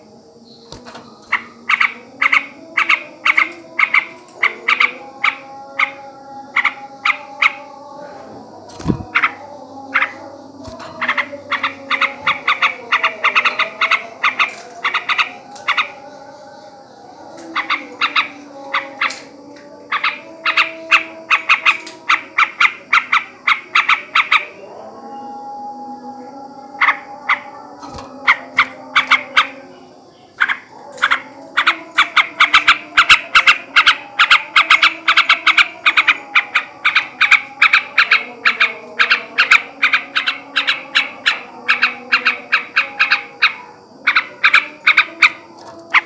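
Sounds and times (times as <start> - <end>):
bulbul chattering: 0.0 - 8.0, 8.6 - 24.8, 26.7 - 46.0.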